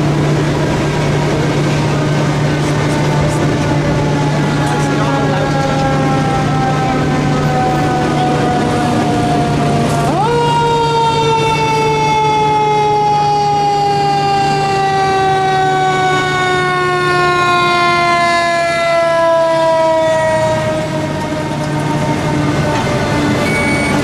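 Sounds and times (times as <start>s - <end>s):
fire engine siren wailing: 0.0s - 24.0s
truck low hum: 0.0s - 24.0s.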